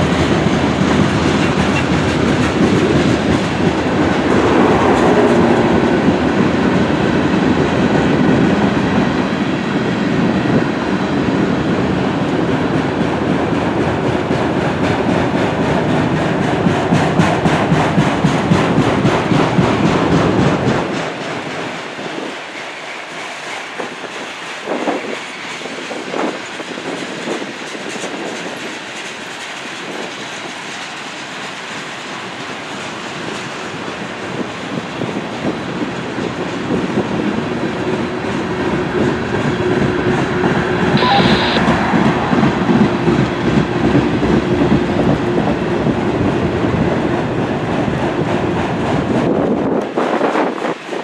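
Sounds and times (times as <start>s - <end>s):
steel wheels clattering on rails: 0.0s - 41.0s, 41.6s - 51.0s
freight train cars rolling: 0.0s - 51.0s.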